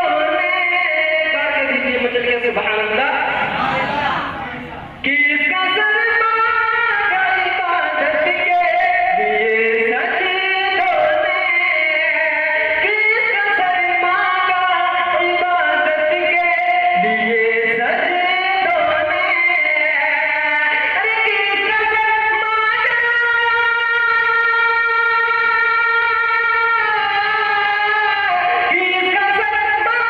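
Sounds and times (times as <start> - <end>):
man singing into a microphone: 0.0 - 3.4, 5.0 - 30.0.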